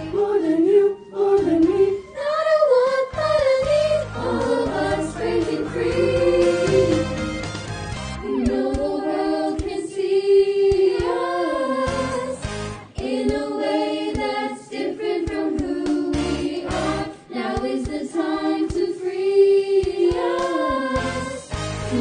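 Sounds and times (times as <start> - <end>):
backing music: 0.0 - 22.0
choir singing a pop song: 0.0 - 22.0.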